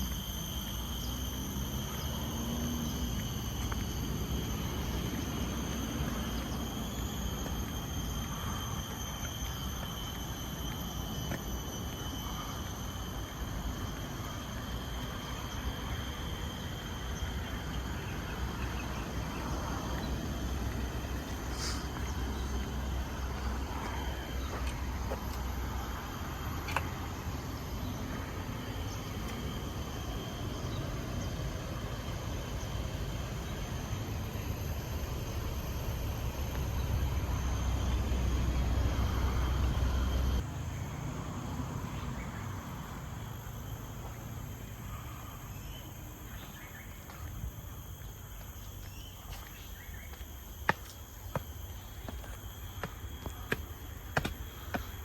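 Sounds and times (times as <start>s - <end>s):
constant low rumble: 0.0s - 55.0s
high-pitched insect drone: 0.0s - 55.0s.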